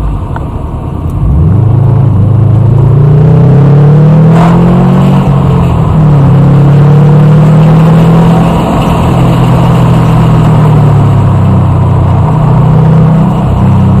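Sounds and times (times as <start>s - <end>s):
road and wind noise: 0.0s - 14.0s
vehicle engine running loud: 0.0s - 14.0s.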